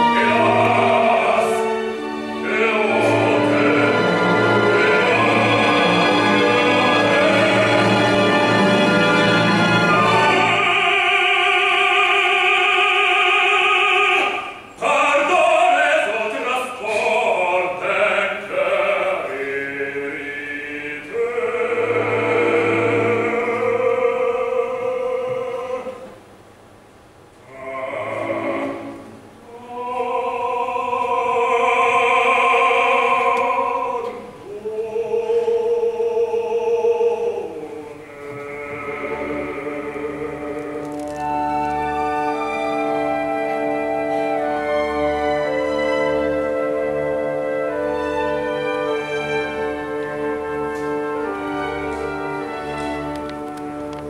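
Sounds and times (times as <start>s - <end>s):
operatic baritone singing: 0.0s - 26.2s, 27.4s - 53.0s.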